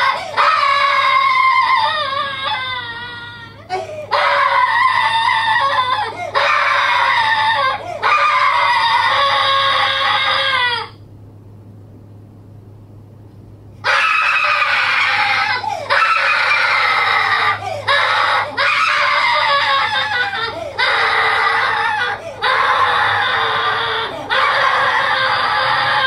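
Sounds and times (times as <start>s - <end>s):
pitched-up human screaming: 0.0s - 11.0s, 13.8s - 26.0s
low hum: 0.0s - 26.0s.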